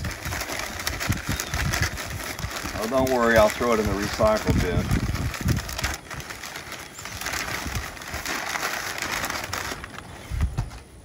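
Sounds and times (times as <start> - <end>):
packing paper crinkling: 0.0 - 10.8.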